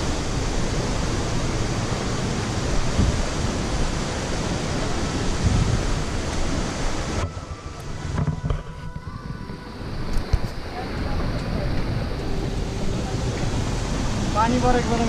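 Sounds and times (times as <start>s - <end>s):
low rumble: 0.0s - 15.0s
river rushing over boulders: 0.0s - 15.0s.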